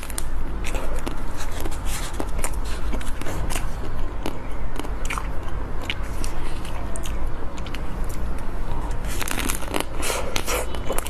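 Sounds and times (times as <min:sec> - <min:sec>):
chewing chocolate sweets: 0:00.0 - 0:11.0
low steady hum: 0:00.0 - 0:11.0.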